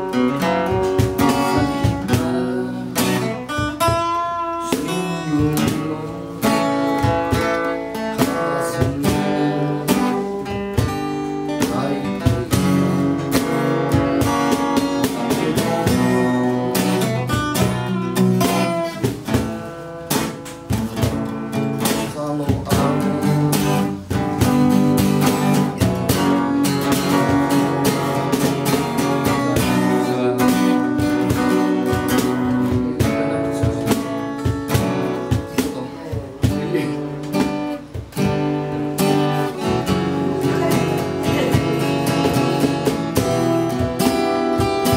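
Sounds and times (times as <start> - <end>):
acoustic guitars playing: 0.0 - 44.9.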